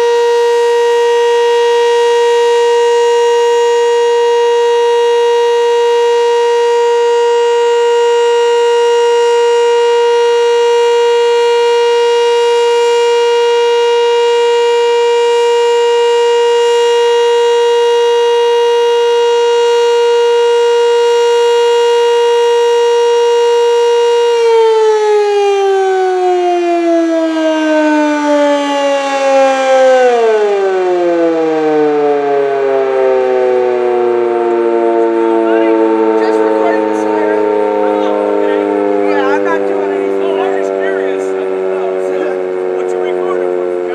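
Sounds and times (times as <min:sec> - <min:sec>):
tornado siren wailing: 0:00.0 - 0:43.9.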